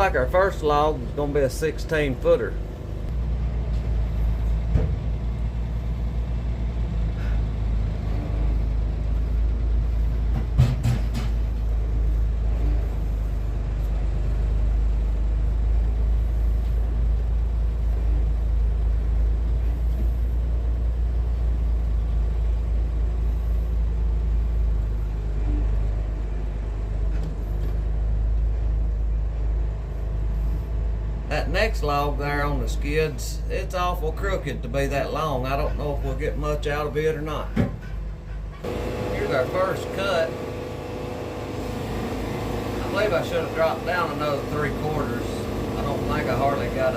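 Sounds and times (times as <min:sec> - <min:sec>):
heavy engine droning: 0:00.0 - 0:46.9.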